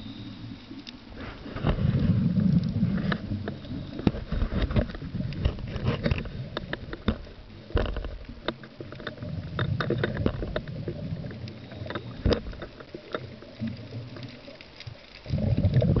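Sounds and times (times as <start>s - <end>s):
low underwater rumble: 0.0s - 16.0s
sharp clicks and crackles: 0.3s - 16.0s.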